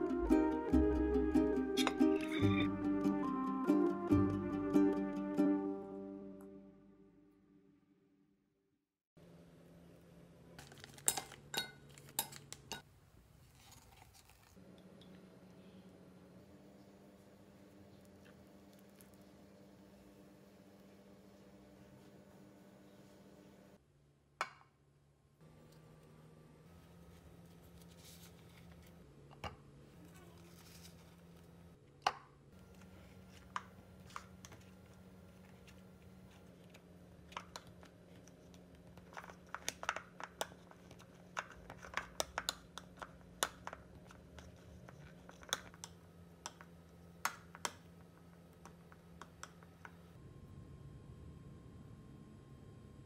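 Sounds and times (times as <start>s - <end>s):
faint steady hum: 9.2s - 53.0s.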